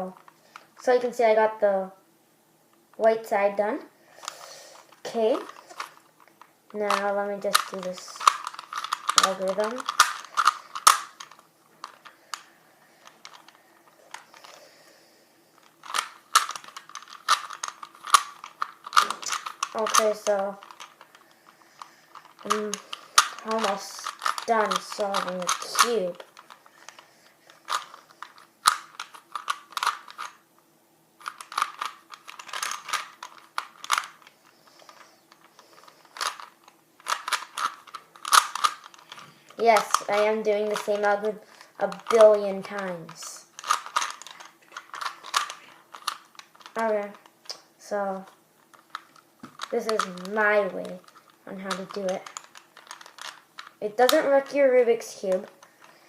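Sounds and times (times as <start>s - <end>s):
puzzle cube clicking turns: 4.2s - 14.6s, 15.6s - 30.4s, 31.2s - 54.4s.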